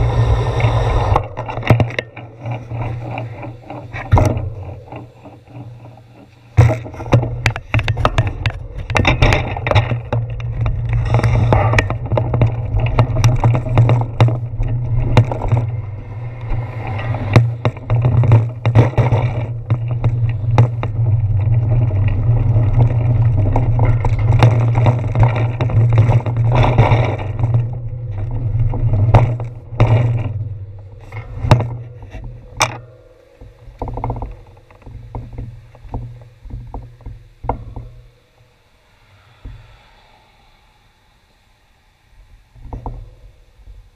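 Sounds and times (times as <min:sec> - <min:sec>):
wheels knocking over pavement joints: 0:00.0 - 0:38.5
bicycle tyres rumbling on concrete: 0:00.0 - 0:40.8, 0:42.3 - 0:43.9.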